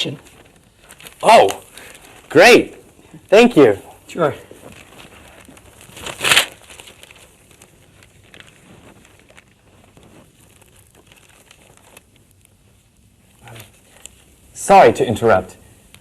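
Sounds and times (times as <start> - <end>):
newspaper pages rustling: 0.0 - 3.0, 4.2 - 14.6
faint crackling: 0.0 - 14.6.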